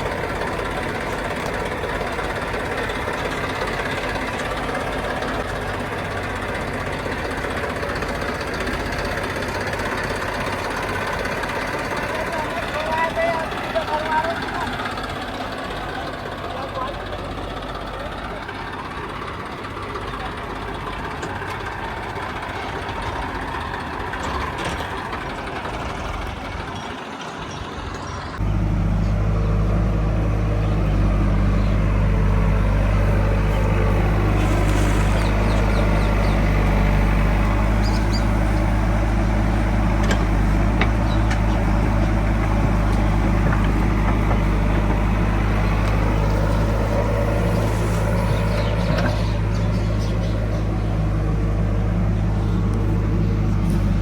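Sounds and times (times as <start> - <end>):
close low engine drone: 0.0 - 54.0
diesel machinery running: 0.0 - 54.0.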